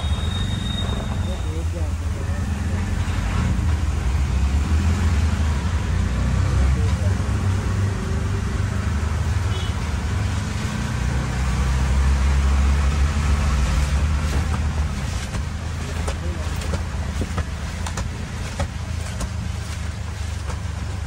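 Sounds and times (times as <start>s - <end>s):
small engine rumbling: 0.0s - 21.0s
wet road noise: 0.0s - 21.0s.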